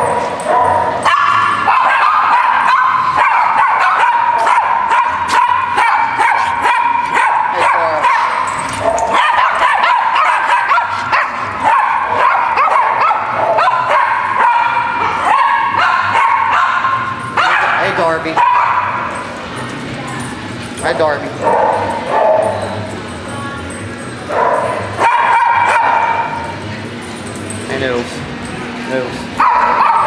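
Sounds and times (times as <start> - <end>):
small dogs barking and yipping: 0.0 - 20.2, 21.4 - 23.2, 24.0 - 27.6, 29.3 - 30.0.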